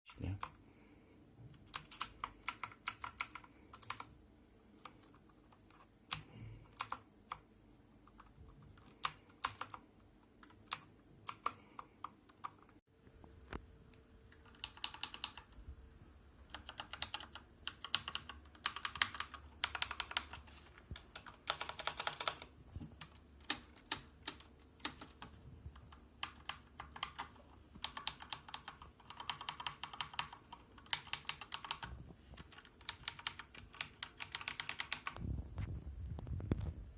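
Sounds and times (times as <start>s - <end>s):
mechanical keyboard typing: 1.6s - 4.1s, 4.8s - 12.8s, 14.3s - 15.6s, 16.4s - 35.2s.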